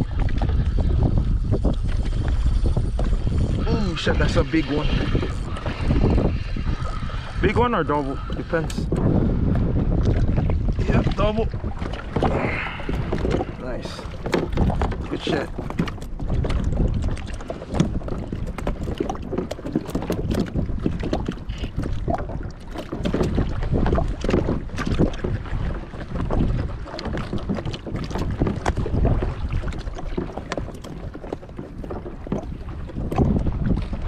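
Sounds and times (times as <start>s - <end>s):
water lapping against kayak hull: 0.0s - 34.0s
wind buffeting microphone: 0.0s - 34.0s.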